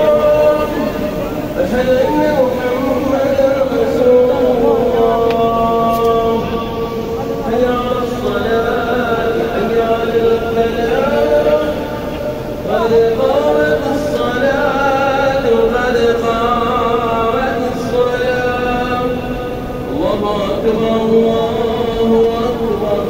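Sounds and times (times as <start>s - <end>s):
man chanting call to prayer: 0.0s - 23.0s.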